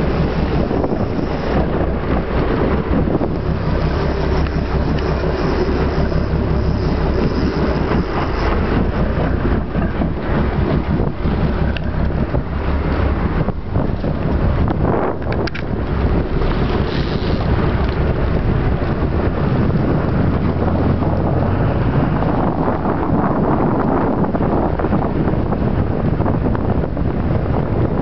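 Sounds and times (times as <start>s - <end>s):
boat engine running: 0.0s - 28.0s
water rushing past hull: 0.0s - 28.0s
wind buffeting microphone: 0.0s - 28.0s.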